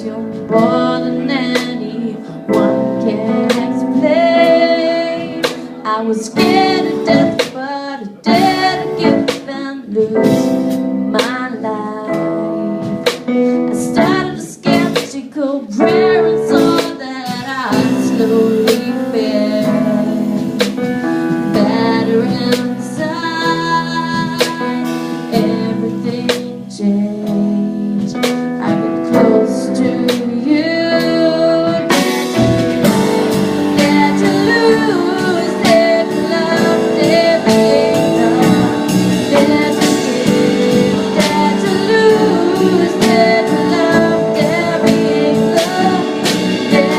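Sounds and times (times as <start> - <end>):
live band playing: 0.0 - 46.9
person singing: 0.0 - 46.9.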